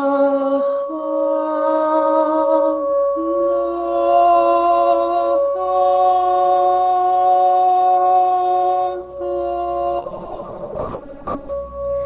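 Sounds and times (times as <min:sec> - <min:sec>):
man singing held tones: 0:00.0 - 0:12.0
singing bowl drone: 0:00.0 - 0:12.0.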